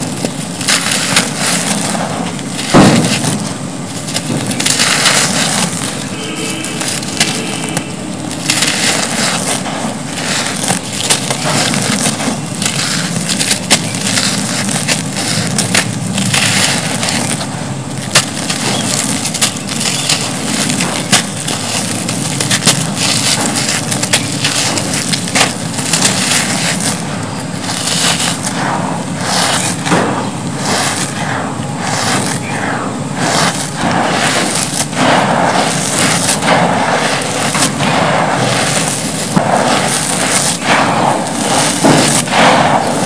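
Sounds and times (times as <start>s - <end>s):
cement crumbling by hand: 0.0s - 6.2s, 6.8s - 31.2s, 33.3s - 43.0s.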